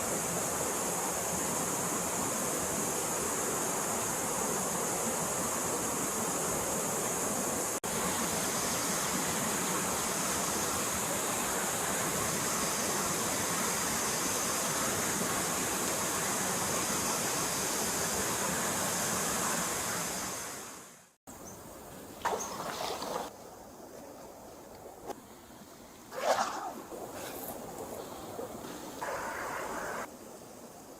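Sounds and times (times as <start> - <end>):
stream water flowing: 0.0 - 30.9.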